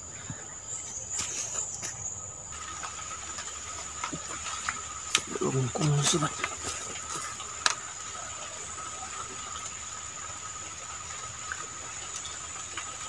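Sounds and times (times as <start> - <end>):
stream hissing: 0.0 - 13.0.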